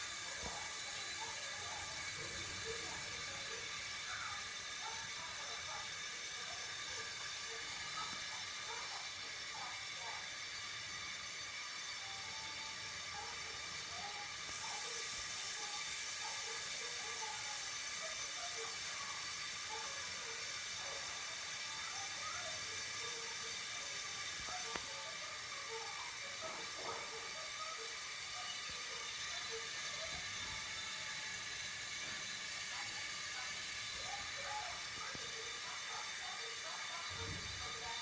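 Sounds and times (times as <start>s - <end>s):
boiling milk hissing: 0.0s - 38.0s.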